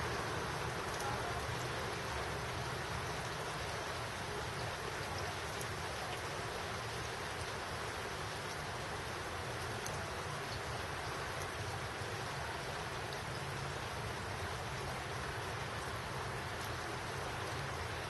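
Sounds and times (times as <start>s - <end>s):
steady rain hiss: 0.0s - 18.0s
faint raindrop ticks: 0.1s - 18.0s.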